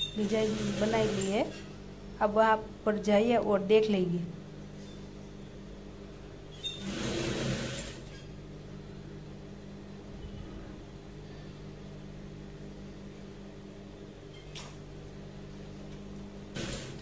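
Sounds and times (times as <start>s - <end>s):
steady electric hum: 0.0s - 17.0s.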